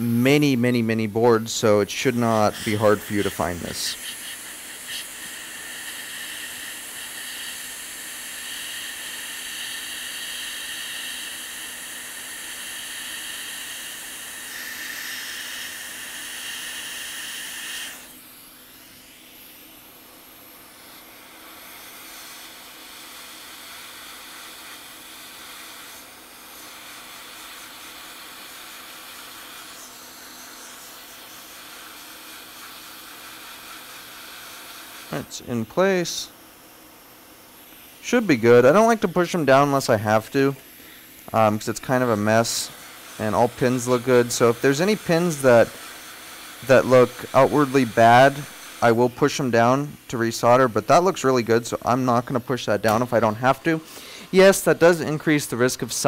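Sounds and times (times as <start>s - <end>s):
hot air station hissing: 0.0s - 56.0s.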